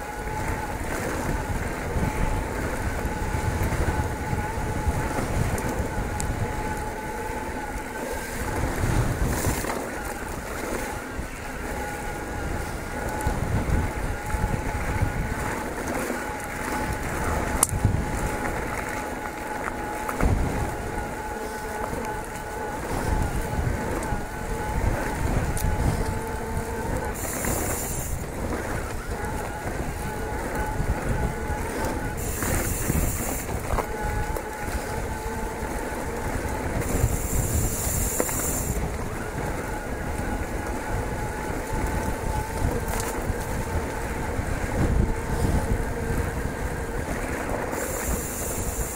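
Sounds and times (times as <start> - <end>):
electric bike motor whine: 0.0 - 48.9
high buzzing: 0.0 - 48.9
tyres rumbling on gravel: 0.0 - 48.9
wind on microphone: 0.0 - 48.9.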